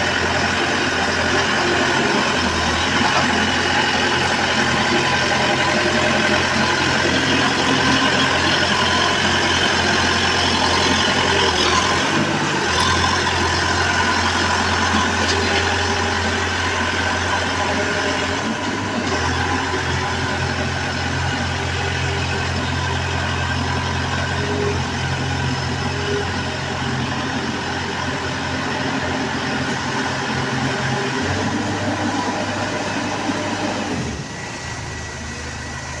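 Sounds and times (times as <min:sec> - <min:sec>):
drilling rig engine running: 0:00.0 - 0:36.0.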